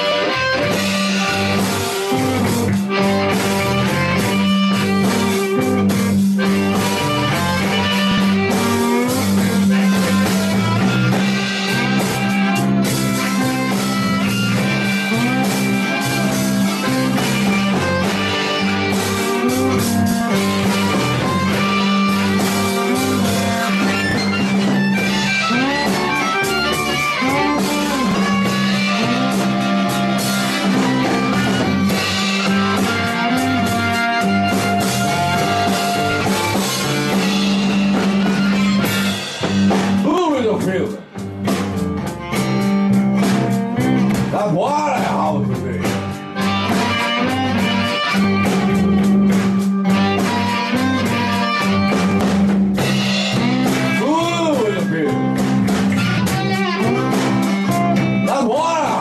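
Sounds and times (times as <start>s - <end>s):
bass: 0.0s - 59.0s
drums: 0.0s - 59.0s
slide guitar: 0.0s - 59.0s.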